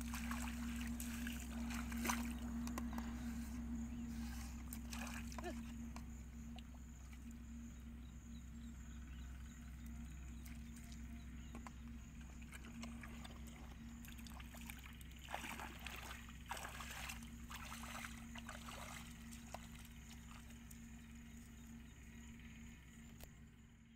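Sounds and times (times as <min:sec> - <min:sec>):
feet sloshing through muddy water: 0:00.0 - 0:07.4, 0:09.8 - 0:22.1
steady low hum: 0:00.0 - 0:23.9.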